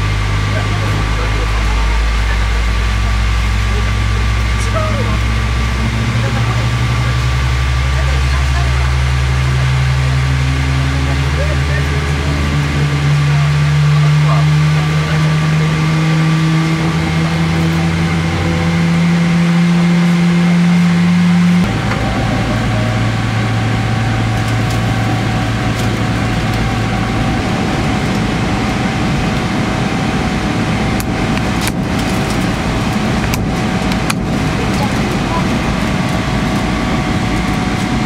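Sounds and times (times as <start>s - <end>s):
airplane cabin hum: 0.0s - 38.0s
broad rushing noise: 0.0s - 38.0s.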